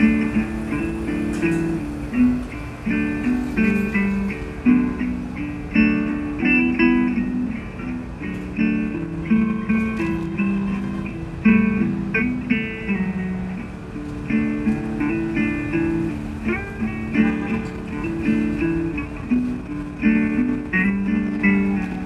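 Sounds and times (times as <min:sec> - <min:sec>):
plucked guitar music: 0:00.0 - 0:22.0.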